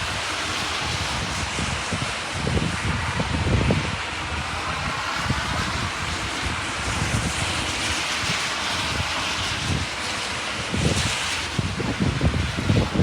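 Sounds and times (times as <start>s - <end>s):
heavy rain: 0.0s - 13.0s
tyres hissing on wet street: 0.0s - 13.0s
wind: 0.0s - 13.0s.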